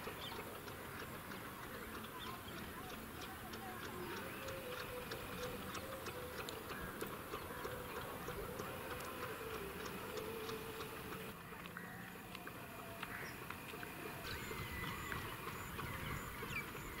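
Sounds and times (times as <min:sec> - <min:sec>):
light irregular clicks and ticks: 0:00.0 - 0:17.0
steady background hiss: 0:00.0 - 0:17.0.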